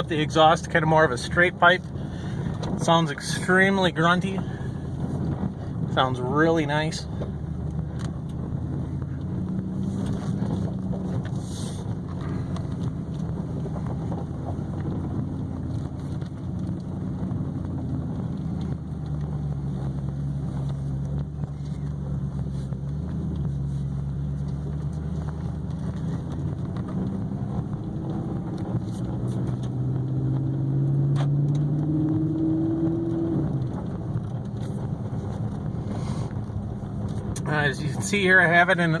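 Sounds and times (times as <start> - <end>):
deep car exhaust drone: 0.0 - 39.0.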